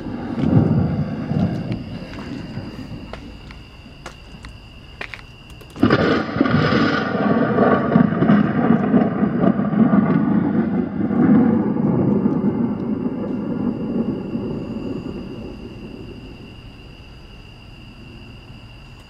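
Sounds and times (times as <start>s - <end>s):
thunder rumbling: 0.0s - 4.8s, 5.8s - 18.8s.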